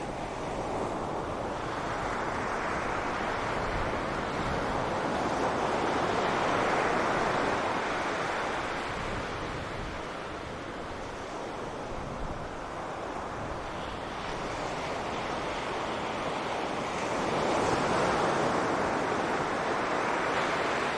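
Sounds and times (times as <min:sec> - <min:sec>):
sea surf washing onto beach: 0:00.0 - 0:20.9.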